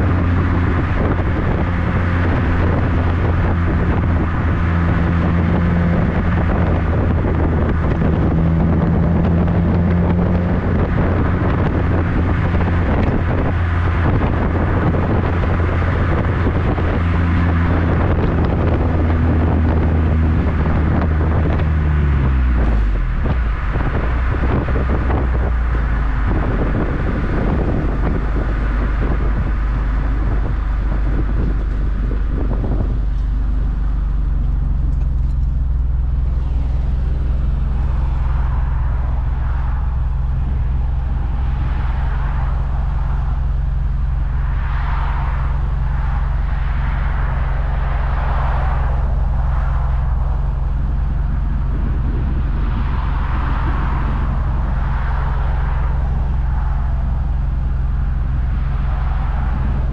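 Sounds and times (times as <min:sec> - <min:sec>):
car engine idling: 0:00.0 - 0:59.9
car exhaust drone: 0:00.0 - 0:59.9
road and wind noise: 0:00.0 - 0:59.9.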